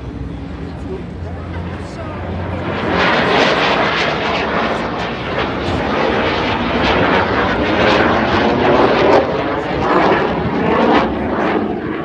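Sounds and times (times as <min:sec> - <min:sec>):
airplane engine flying past: 0:00.0 - 0:12.0.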